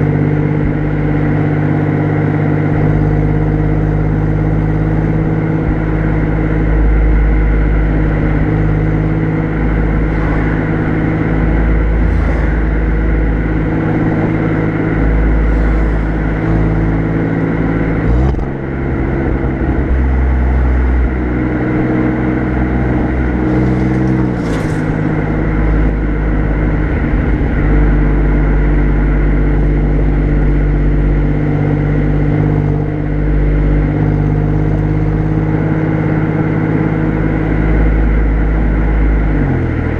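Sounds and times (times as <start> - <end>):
car exhaust at low revs: 0.0 - 39.9.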